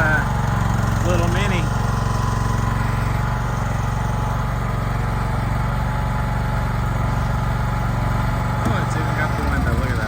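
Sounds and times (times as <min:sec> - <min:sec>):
small gasoline engine running: 0:00.0 - 0:10.0.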